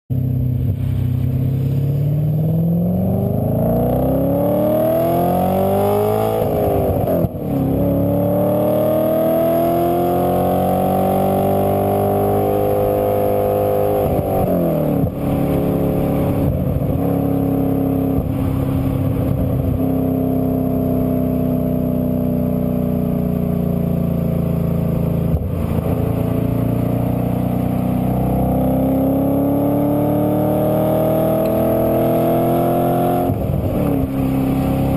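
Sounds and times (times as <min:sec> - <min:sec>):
car engine accelerating hard: 0:00.2 - 0:34.9.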